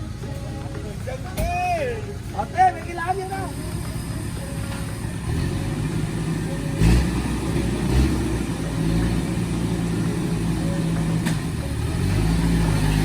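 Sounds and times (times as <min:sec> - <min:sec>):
vehicle engine under load: 0:00.0 - 0:13.0
vehicle jolting over bumps: 0:00.0 - 0:13.0.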